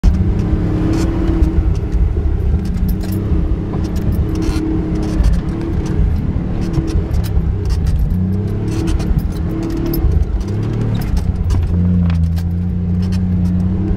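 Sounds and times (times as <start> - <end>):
car engine running: 0.0 - 13.9
loose parts rattling: 0.0 - 13.9.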